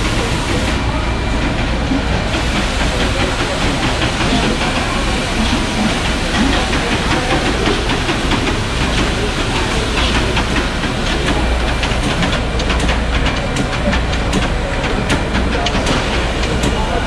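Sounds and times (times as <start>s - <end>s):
bottling machinery hum: 0.0s - 17.0s.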